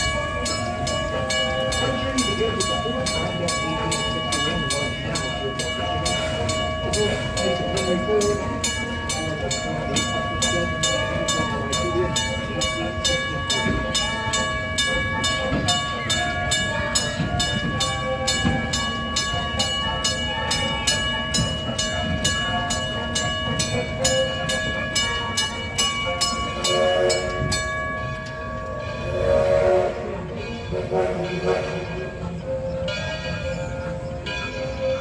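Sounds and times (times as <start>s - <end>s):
low train rumble: 0.0s - 35.0s
steam locomotive chuffing: 0.0s - 35.0s.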